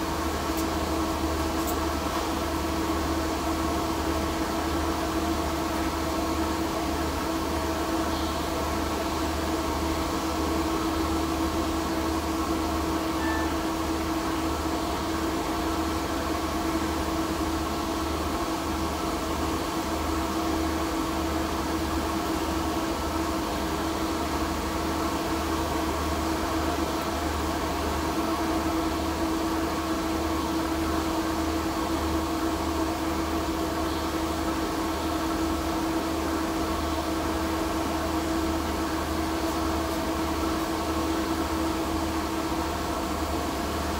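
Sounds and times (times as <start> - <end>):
ventilation blower humming: 0.0 - 43.9.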